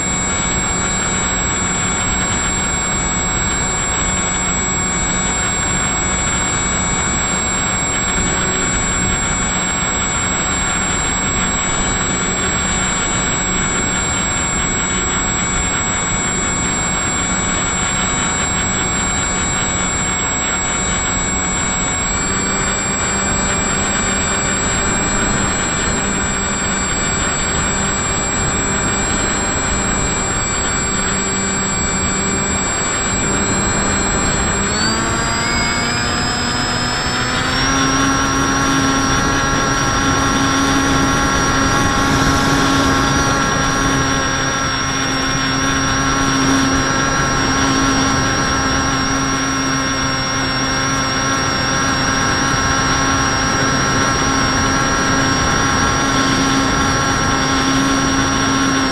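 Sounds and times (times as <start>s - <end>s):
model aircraft motor whining: 0.0s - 58.9s.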